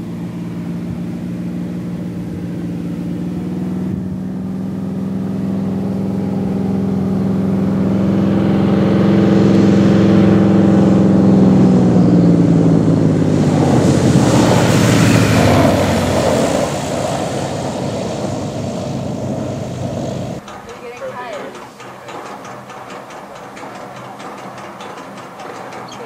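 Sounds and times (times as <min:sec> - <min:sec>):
propeller plane engine droning: 0:00.0 - 0:26.0
rushing noise of plane passing: 0:00.0 - 0:26.0.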